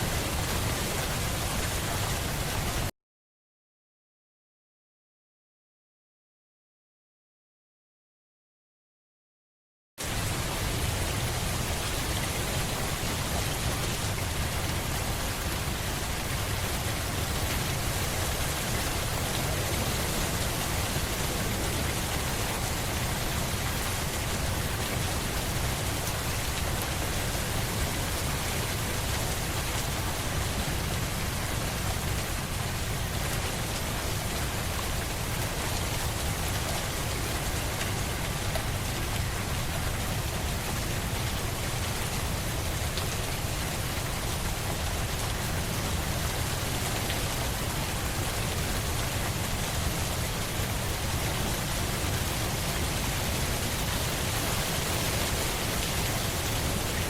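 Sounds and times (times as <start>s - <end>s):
heavy rainfall: 0.0s - 2.9s, 10.0s - 57.0s.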